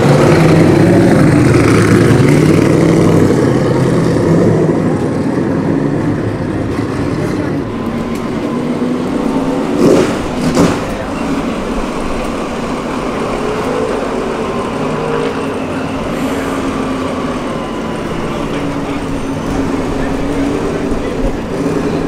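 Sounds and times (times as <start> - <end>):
race car engine at low revs: 0.0 - 22.0.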